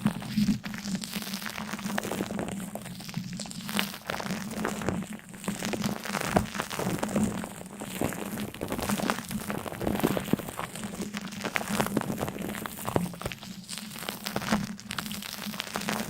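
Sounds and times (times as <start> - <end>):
crinkling and crackling: 0.0 - 16.0.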